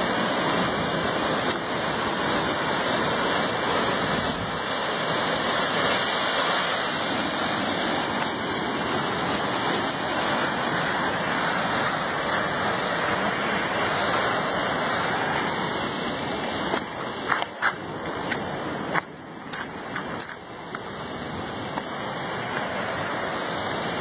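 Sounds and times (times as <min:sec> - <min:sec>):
ocean waves surging on rocks: 0:00.0 - 0:24.0.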